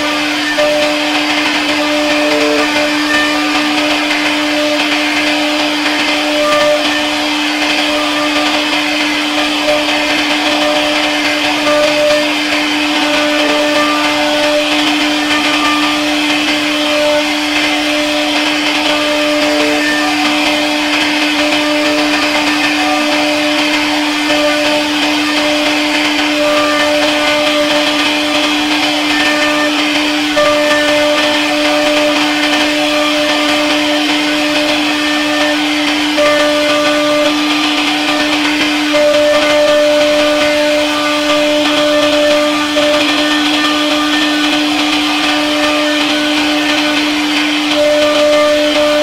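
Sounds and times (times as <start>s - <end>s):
hiss of cutting wood: 0.0s - 49.0s
router spindle whine: 0.0s - 49.0s.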